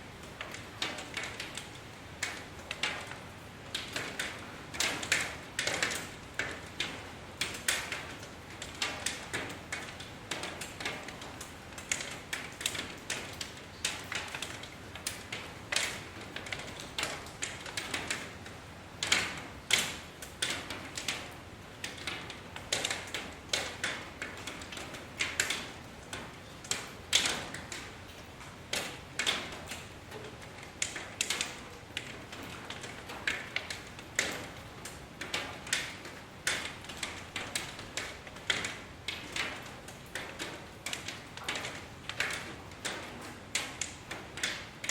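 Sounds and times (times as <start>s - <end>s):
faint rain patter: 0.0s - 44.9s
rain drops tapping on hard surface: 0.0s - 44.9s.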